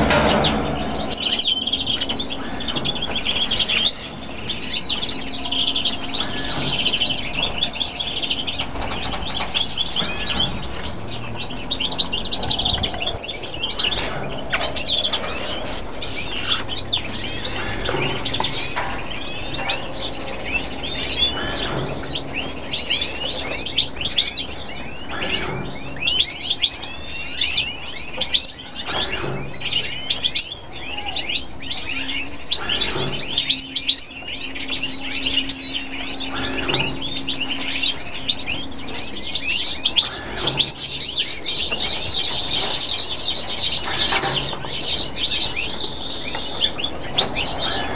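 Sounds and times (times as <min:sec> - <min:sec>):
finches chirping and twittering: 0:00.0 - 0:47.9.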